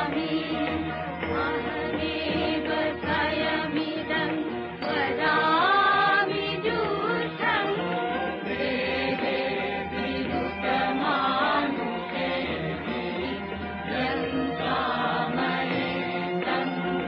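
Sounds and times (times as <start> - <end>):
choir chanting devotional music: 0.0 - 17.0.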